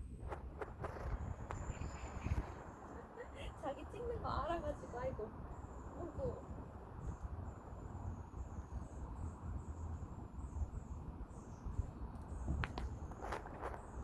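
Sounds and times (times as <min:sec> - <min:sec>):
crickets chirping: 0:01.0 - 0:14.0.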